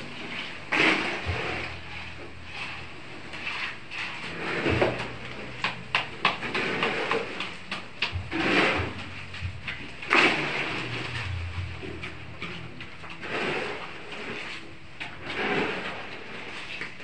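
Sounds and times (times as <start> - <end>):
gravel scraping on concrete: 0.0 - 17.0.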